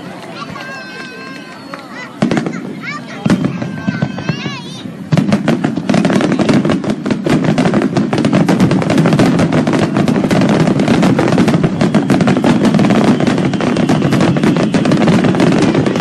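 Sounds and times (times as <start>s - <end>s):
fireworks cracking and popping: 0.0s - 16.0s.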